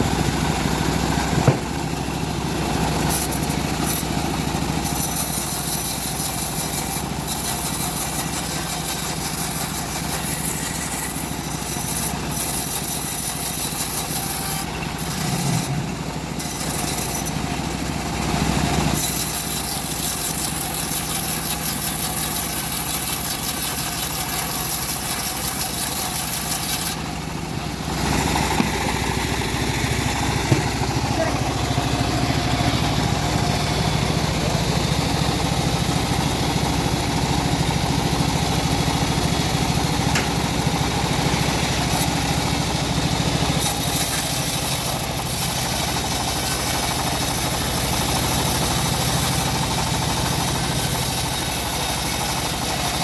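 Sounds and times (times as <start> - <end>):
sawmill engine running: 0.0 - 53.0
high hiss of saw cutting: 2.7 - 17.8, 18.8 - 35.0, 39.0 - 53.0.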